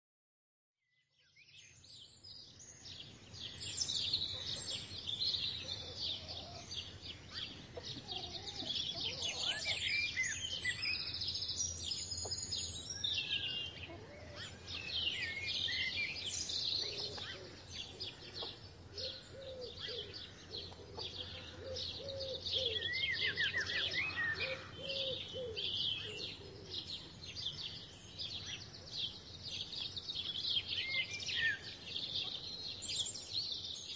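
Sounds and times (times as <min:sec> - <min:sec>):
small birds chirping and singing: 0:00.9 - 0:33.9.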